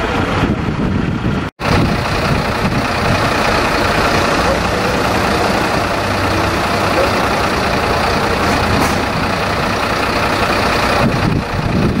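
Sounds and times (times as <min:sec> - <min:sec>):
diesel engine idling: 0:00.1 - 0:12.0.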